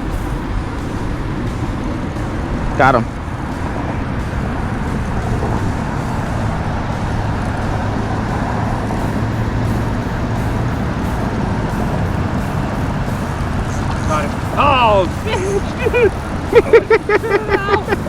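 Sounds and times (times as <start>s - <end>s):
low hum: 0.0s - 18.0s
outdoor rumble and hiss: 0.0s - 18.0s.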